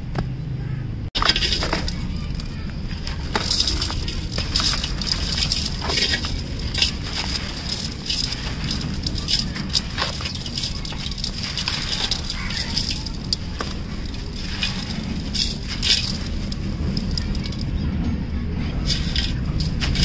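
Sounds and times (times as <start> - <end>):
cement lumps crushed by hand: 1.2 - 17.7, 18.8 - 20.0.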